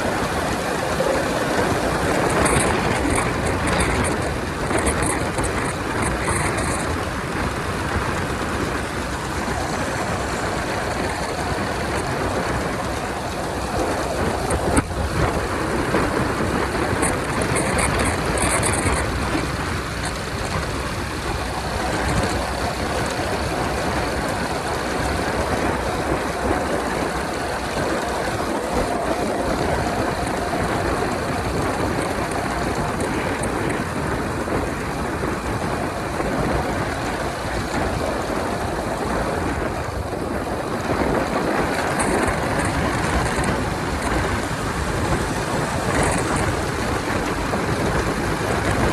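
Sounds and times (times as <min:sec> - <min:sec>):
motorcycle engine cruising: 0:00.0 - 0:48.9
wind rushing across microphone: 0:00.0 - 0:48.9.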